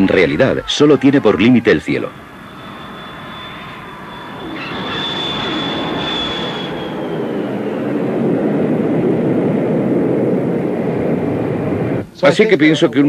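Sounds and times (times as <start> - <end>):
rushing noise: 0.0 - 12.1
jet engine whine: 0.0 - 12.2.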